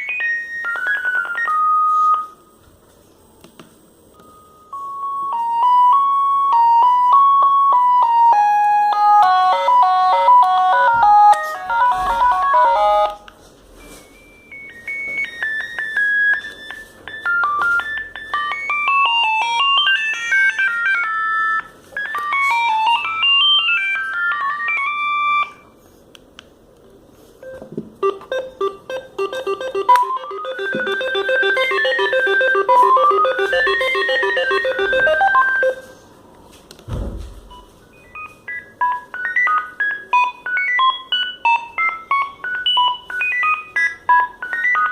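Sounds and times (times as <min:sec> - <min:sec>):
mobile phone ringtone melodies: 0:00.0 - 0:02.4, 0:04.2 - 0:25.7, 0:27.4 - 0:36.0, 0:37.9 - 0:44.9.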